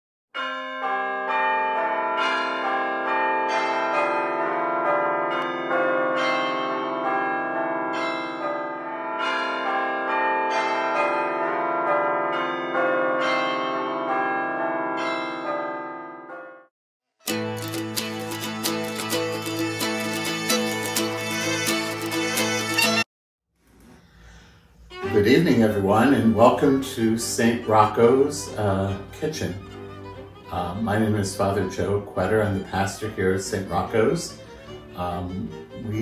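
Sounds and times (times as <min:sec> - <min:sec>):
church bells ringing: 0:00.4 - 0:16.7, 0:17.3 - 0:23.0, 0:25.0 - 0:36.0.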